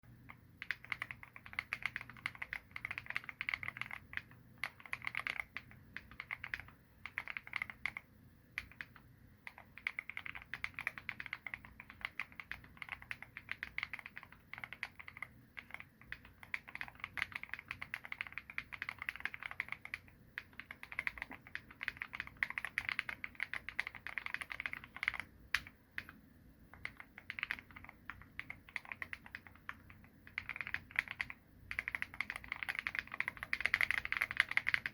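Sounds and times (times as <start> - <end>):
mechanical keyboard typing: 0.2 - 34.9.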